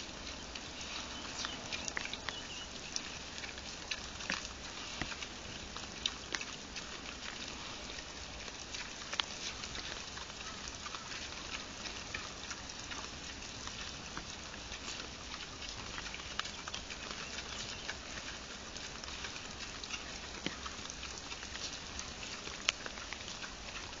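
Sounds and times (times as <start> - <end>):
boars crunching corn: 0.0 - 24.0.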